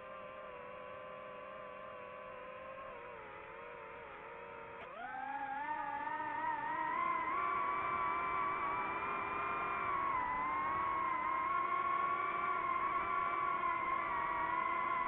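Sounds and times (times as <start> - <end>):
drone propellers whining: 0.3 - 15.0.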